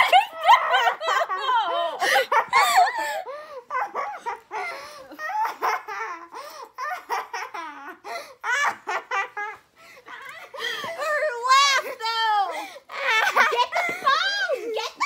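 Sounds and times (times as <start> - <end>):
girls laughing and squealing: 0.0 - 15.0.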